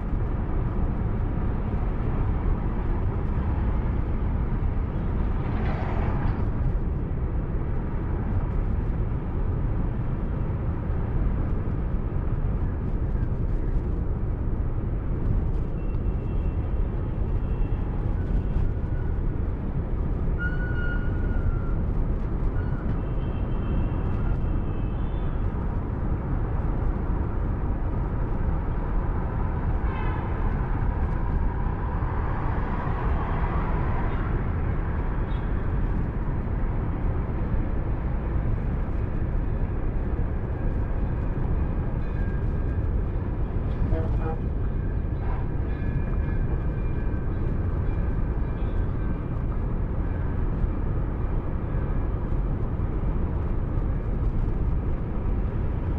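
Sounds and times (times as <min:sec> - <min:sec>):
car driving on highway: 0:00.0 - 0:55.9.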